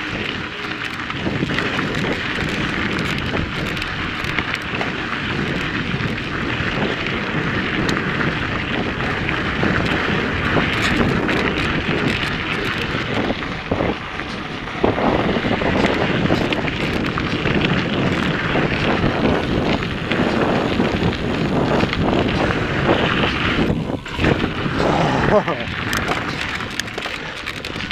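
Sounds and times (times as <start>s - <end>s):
bike rattling and ticking: 0.0s - 27.9s
tyres rolling over gravel: 0.0s - 27.9s
wind rushing over microphone: 0.0s - 27.9s.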